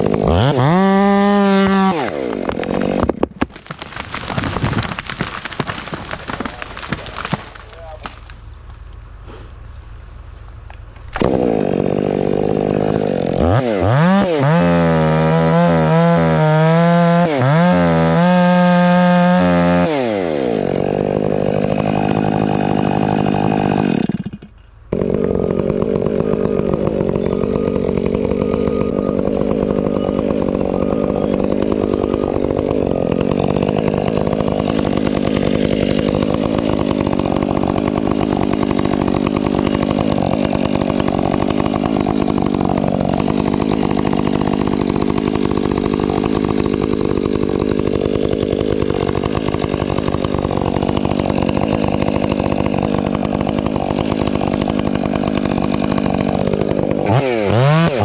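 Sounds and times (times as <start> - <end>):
chainsaw revving: 0.0 - 8.5, 11.1 - 58.0.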